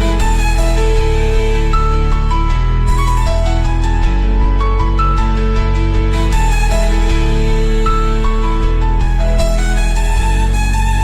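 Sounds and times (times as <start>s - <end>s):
slow melodic background music: 0.0s - 11.0s
steady low bass: 0.0s - 11.0s.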